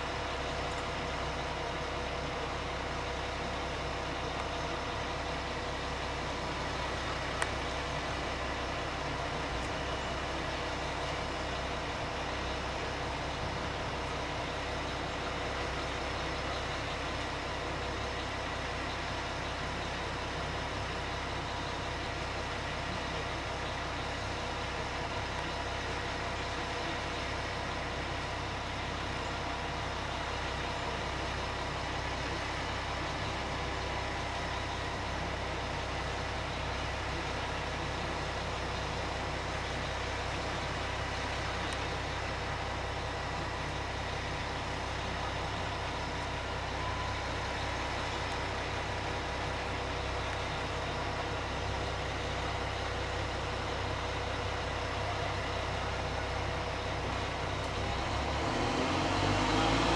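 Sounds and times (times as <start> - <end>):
faint steady whine: 0.0 - 58.6
garbage truck idling: 0.0 - 59.7.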